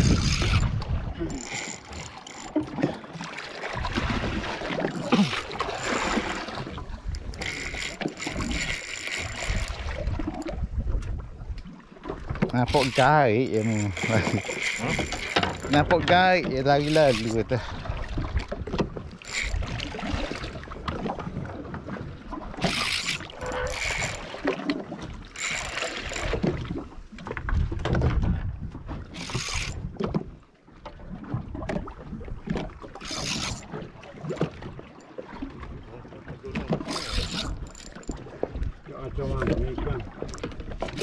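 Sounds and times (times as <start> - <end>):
water splashing against boat hull: 0.0 - 41.0.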